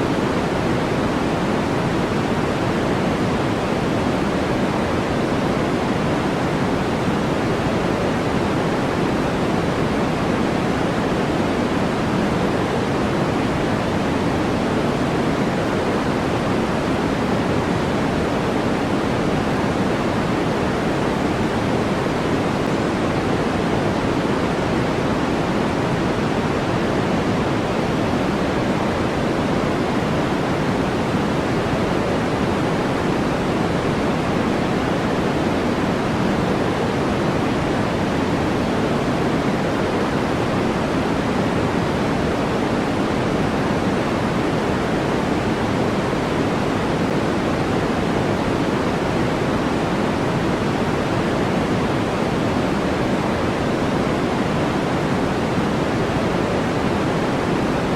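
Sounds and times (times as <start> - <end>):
steady pink noise hiss: 0.0 - 57.9.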